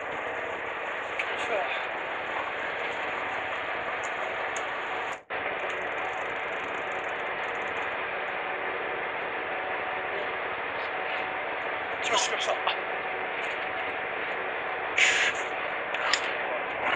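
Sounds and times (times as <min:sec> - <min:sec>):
boat engine: 0:00.0 - 0:16.9
faint steady whine: 0:00.0 - 0:16.9.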